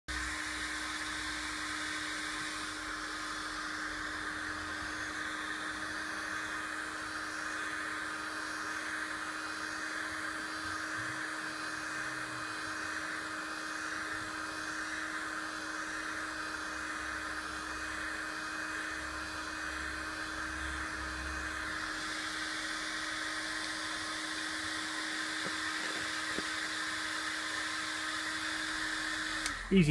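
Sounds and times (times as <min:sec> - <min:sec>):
heat gun blowing and humming: 0:00.1 - 0:29.9.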